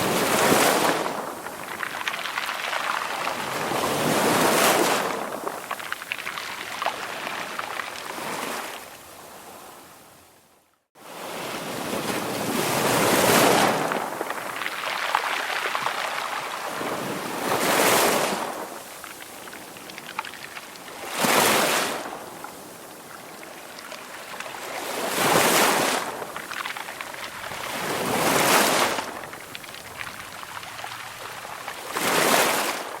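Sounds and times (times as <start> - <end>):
ocean waves breaking: 0.0 - 9.8, 11.0 - 33.0.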